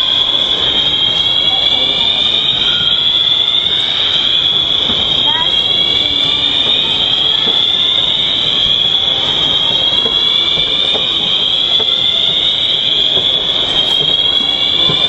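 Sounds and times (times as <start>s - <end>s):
fire alarm rising tone: 0.0s - 15.0s.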